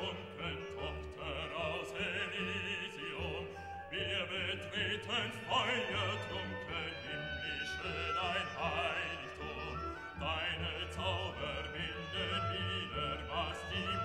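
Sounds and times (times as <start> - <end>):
low musical accompaniment: 0.0 - 14.0
wavering vibrato melody: 0.0 - 14.0.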